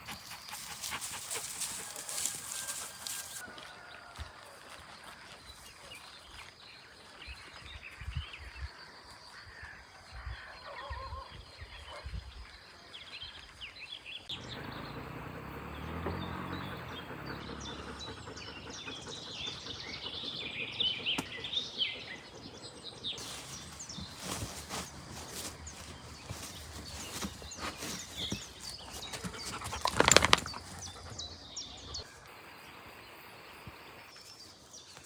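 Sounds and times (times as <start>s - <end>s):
songbirds chirping and singing: 0.0s - 35.0s.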